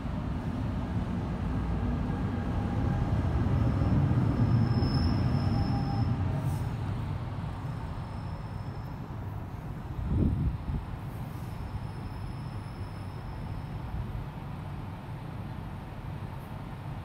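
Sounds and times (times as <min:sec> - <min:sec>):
high steady locomotive whine: 0:00.0 - 0:17.0
train wheels rumbling on rail: 0:00.0 - 0:17.0.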